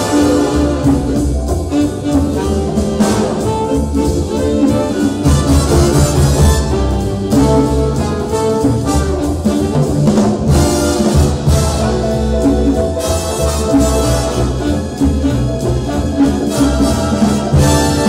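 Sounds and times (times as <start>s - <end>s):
brass section: 0.0s - 18.0s
drum kit: 0.0s - 18.0s.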